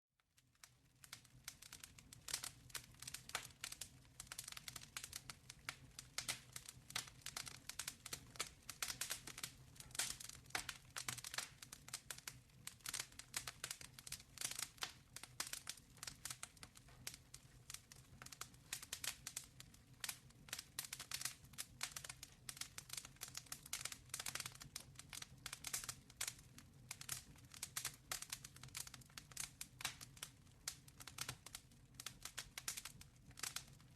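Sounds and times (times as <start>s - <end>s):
wood fire crackling: 0.3s - 33.9s.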